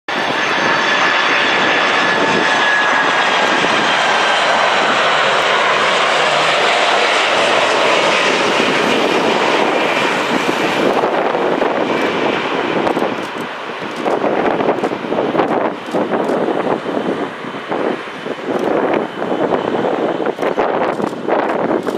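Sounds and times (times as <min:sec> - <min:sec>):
jet airliner passing overhead: 0:00.1 - 0:21.9.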